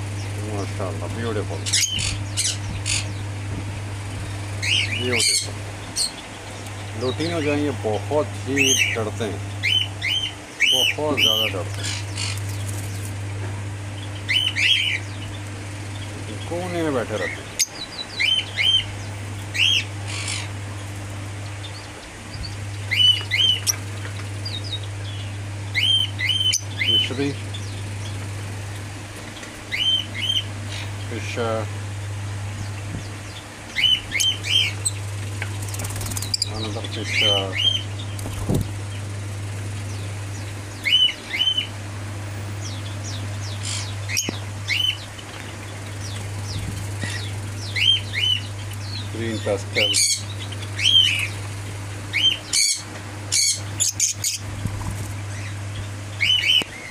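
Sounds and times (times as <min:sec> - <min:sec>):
lovebirds chirping: 0:00.0 - 0:56.9
steady low hum: 0:00.0 - 0:56.9.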